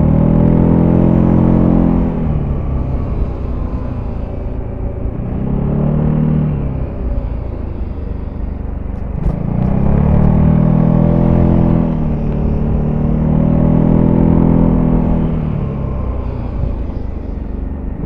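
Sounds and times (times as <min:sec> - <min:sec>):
motorcycle engine revving: 0:00.0 - 0:18.0
wind and road rumble: 0:00.0 - 0:18.0.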